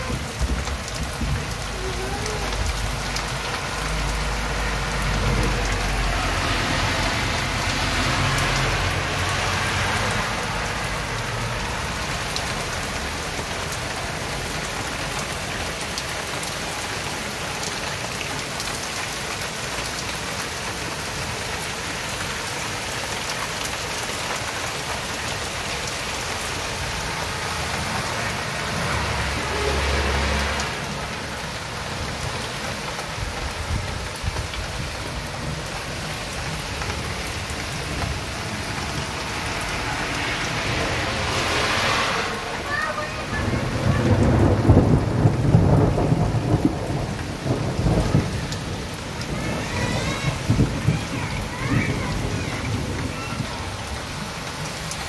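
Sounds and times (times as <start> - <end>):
car driving through water: 0.0 - 55.0
heavy rain on street: 0.0 - 55.0.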